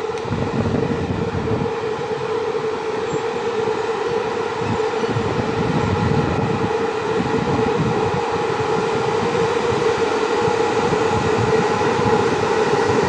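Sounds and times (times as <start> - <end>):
electric locomotive humming: 0.0 - 13.0.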